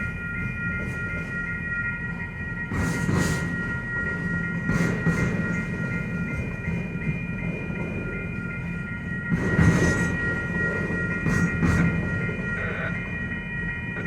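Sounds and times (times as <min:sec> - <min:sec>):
train cars rumbling past: 0:00.0 - 0:14.0.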